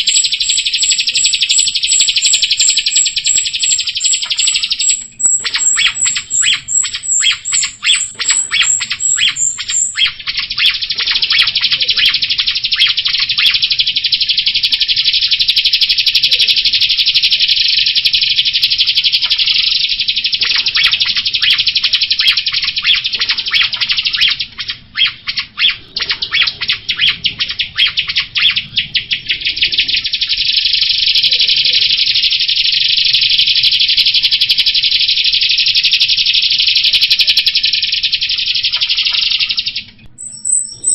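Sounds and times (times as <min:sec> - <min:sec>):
high rapid bird trill: 0:00.0 - 0:40.9
starling chattering song: 0:00.0 - 0:40.9.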